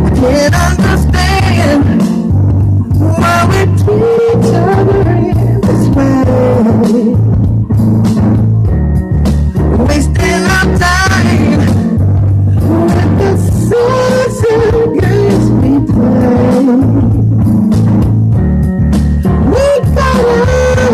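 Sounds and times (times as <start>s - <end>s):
bending keyboard lead melody: 0.0s - 20.9s
low bass notes: 0.0s - 20.9s
steady beat: 0.0s - 20.9s.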